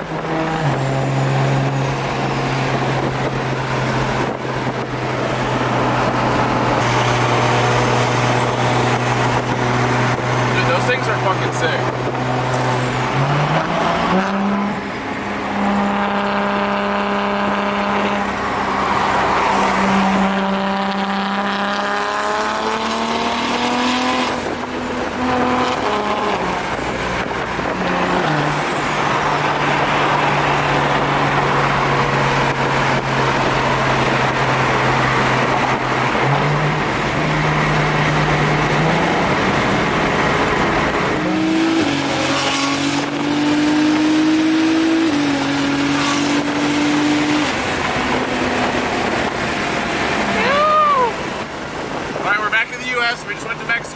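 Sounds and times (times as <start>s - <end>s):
car engine and exhaust: 0.0s - 53.9s.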